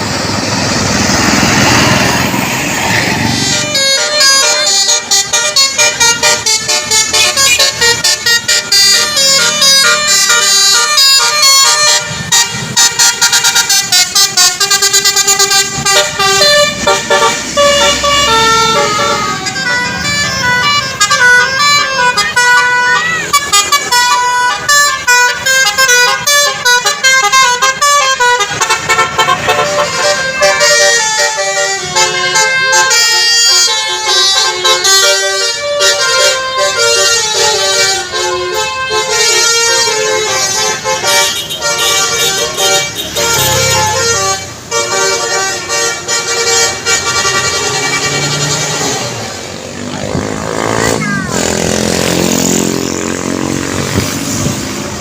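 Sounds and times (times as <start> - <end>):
musical bus horn: 0.6 - 54.5.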